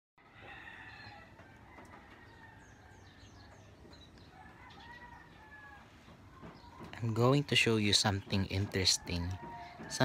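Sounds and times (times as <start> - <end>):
distant rooster crowing: 0.2 - 10.0
small birds chirping: 0.4 - 10.0.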